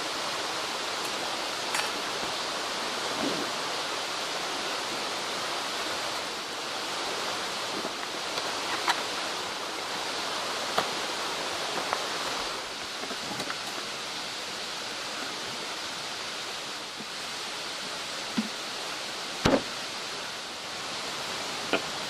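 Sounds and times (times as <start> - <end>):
mountain stream flowing: 0.0 - 22.0.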